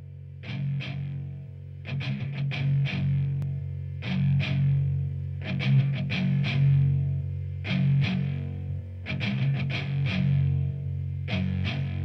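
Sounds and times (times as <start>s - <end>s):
rock music with distorted guitar: 0.4s - 3.4s, 4.0s - 12.0s.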